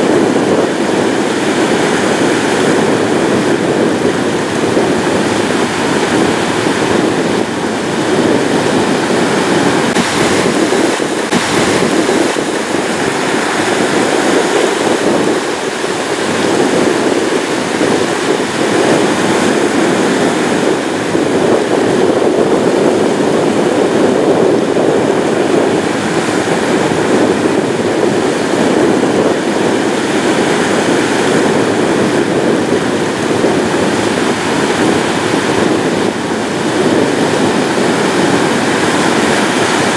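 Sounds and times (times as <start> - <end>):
ocean waves rushing: 0.0 - 39.9.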